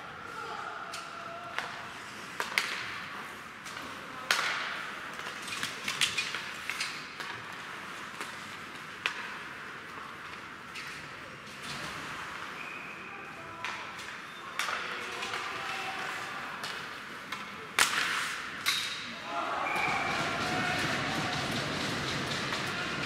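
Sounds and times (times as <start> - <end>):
hockey sticks and puck clacking: 0.9 - 11.7, 13.6 - 23.0.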